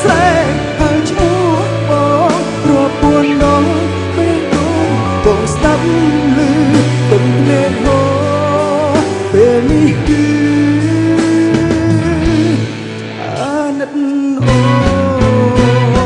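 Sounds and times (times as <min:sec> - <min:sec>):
man singing into microphone: 0:00.0 - 0:16.0
rock band playing: 0:00.0 - 0:16.0.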